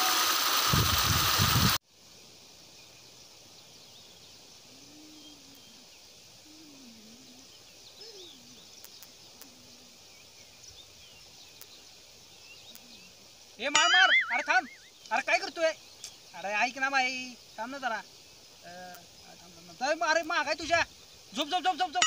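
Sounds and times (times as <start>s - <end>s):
faint bird chirps: 2.2s - 22.0s
faint gliding bird calls: 2.8s - 22.0s.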